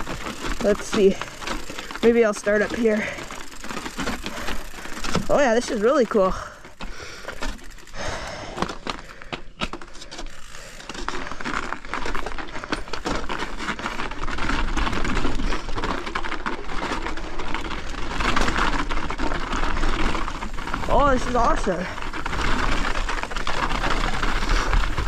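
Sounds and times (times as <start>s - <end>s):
bike rattling and clicking: 0.0s - 25.0s.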